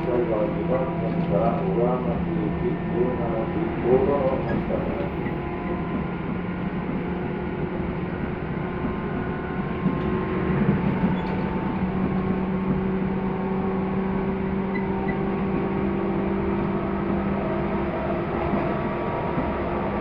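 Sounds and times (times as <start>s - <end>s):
electric train hum and rumble: 0.0s - 20.0s.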